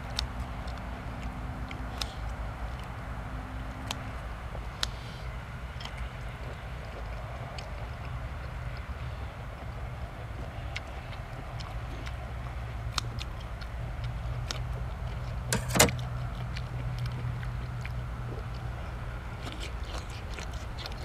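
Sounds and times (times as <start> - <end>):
chewing and handling food clicks: 0.0 - 21.0
steady low hum: 0.0 - 21.0.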